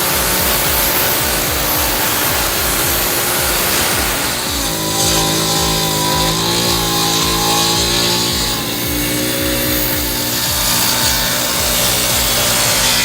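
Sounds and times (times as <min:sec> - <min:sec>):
background music with steady beat: 0:00.0 - 0:13.0
machine engine running: 0:00.0 - 0:13.0.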